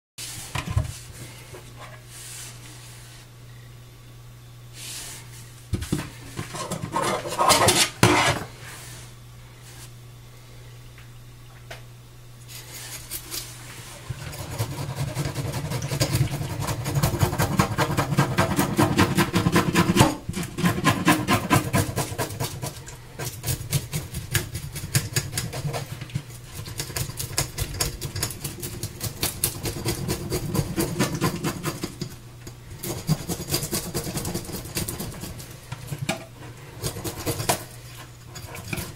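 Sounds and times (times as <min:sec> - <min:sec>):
steady low hum: 0:00.2 - 0:38.9.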